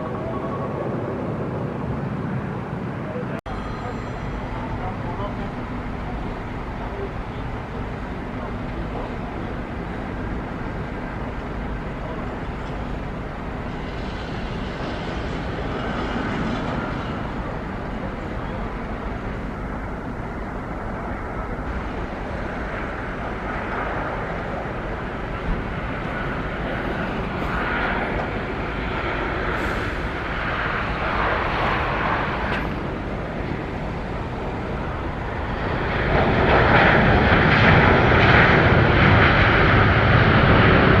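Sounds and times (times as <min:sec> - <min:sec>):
airliner engines rushing: 0:00.0 - 0:41.0.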